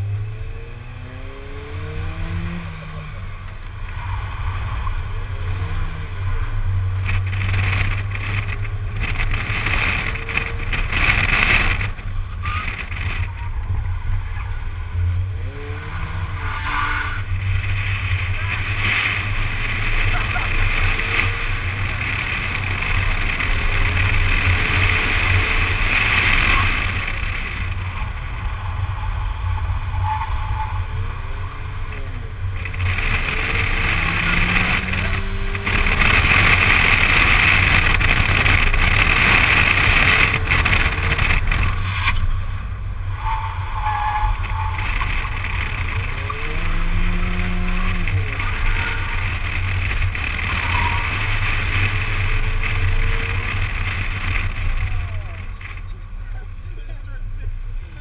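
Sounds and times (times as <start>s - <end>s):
car engine revving: 0.0s - 58.0s
tyre noise: 0.0s - 58.0s.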